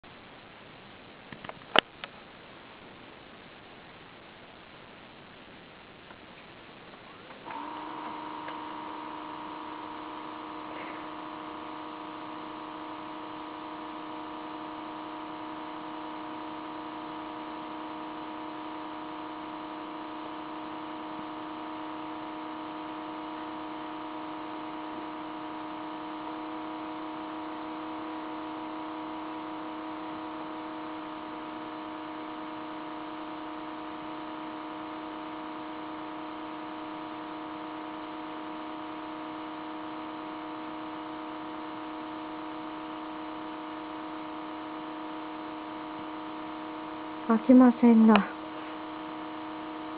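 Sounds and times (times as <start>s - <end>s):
laptop humming: 4.3s - 49.9s.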